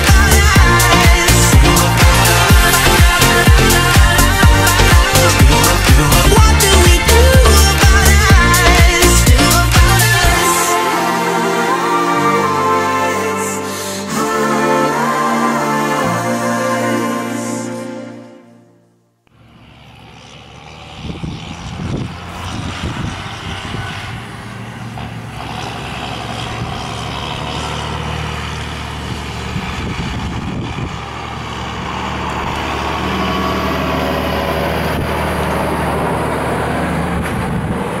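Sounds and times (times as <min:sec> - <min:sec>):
tractor engine running: 0:00.0 - 0:12.5, 0:19.3 - 0:38.0.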